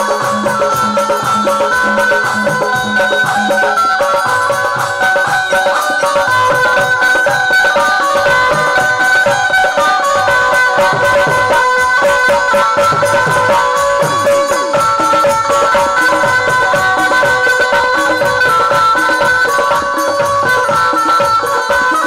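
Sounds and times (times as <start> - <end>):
fast steady drum beat: 0.0 - 22.0
held melody notes: 0.0 - 22.0
jingling percussion: 0.0 - 22.0.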